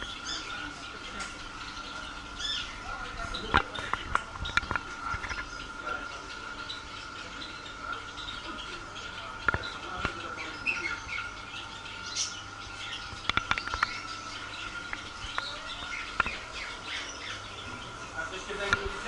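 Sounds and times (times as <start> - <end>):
caged birds chirping: 0.0 - 19.0.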